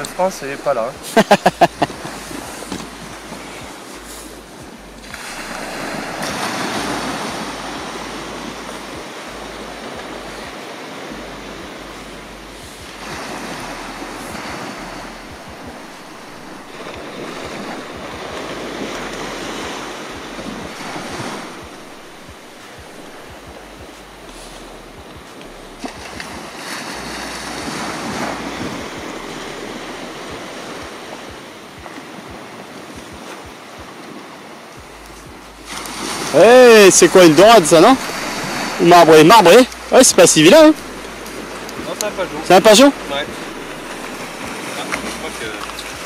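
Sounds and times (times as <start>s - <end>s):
wind on microphone: 0.0s - 39.0s, 39.7s - 46.0s
surf breaking on beach: 0.0s - 46.0s.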